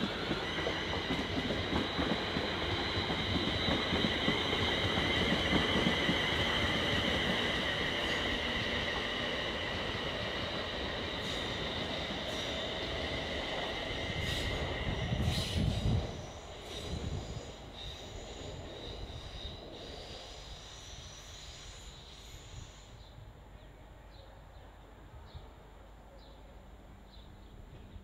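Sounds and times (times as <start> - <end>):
train wheels squealing: 0.0 - 23.2
passing train rumble: 0.0 - 28.0.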